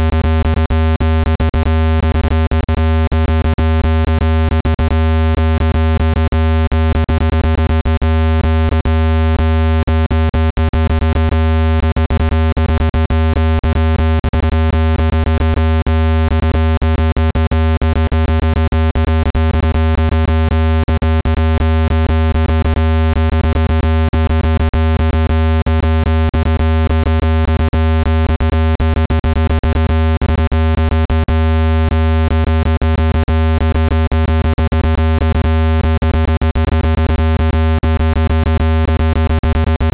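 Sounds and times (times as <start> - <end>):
low-pitched synthesized buzz: 0.0 - 39.9.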